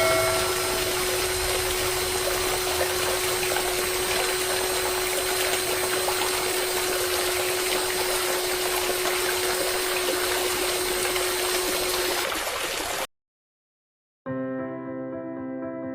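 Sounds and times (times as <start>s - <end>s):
water pump motor whine: 0.0s - 13.0s
rushing water: 0.0s - 13.1s.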